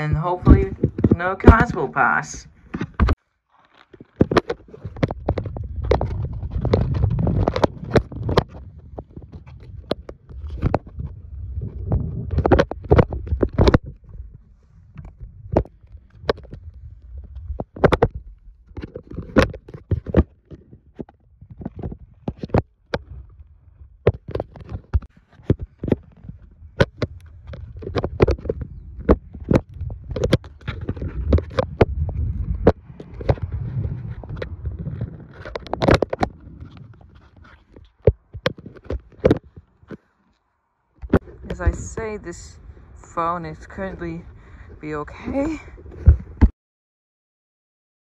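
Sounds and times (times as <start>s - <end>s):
scooter wheels rumbling: 0.0s - 46.4s.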